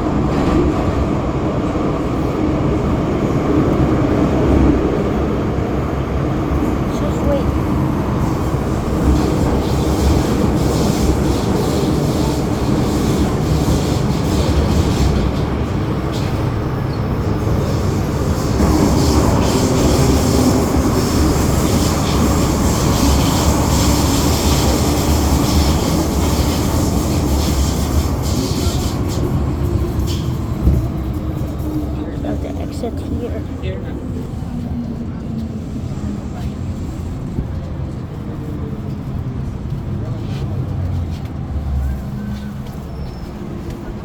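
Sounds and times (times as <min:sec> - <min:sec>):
metro train rumbling: 0:00.0 - 0:44.0.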